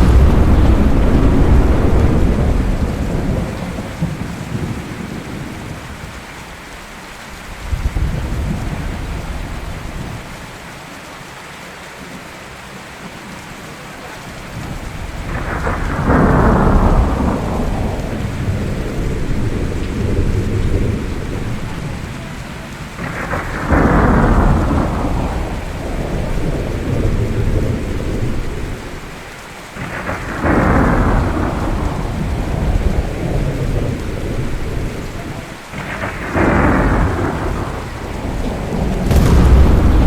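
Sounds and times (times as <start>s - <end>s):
rolling thunder: 0.0s - 6.6s, 14.6s - 40.0s
steady rain: 0.0s - 40.0s.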